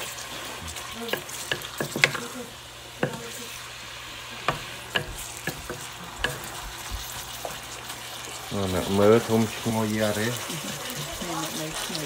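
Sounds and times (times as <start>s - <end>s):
food sizzling in frying pan: 0.0s - 12.0s
spatula scraping pan: 0.0s - 12.0s.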